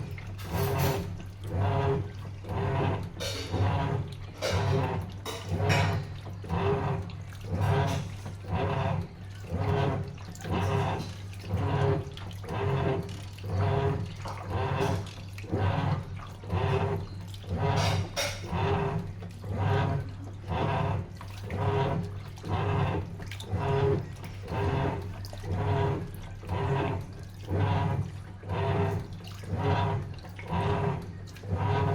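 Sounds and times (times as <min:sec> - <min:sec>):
low motor hum: 0:00.0 - 0:31.9
washing machine water sloshing: 0:00.0 - 0:31.9.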